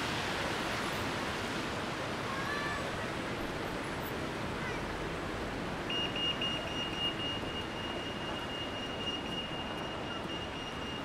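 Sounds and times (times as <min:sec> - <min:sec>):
city background noise: 0:00.0 - 0:11.0.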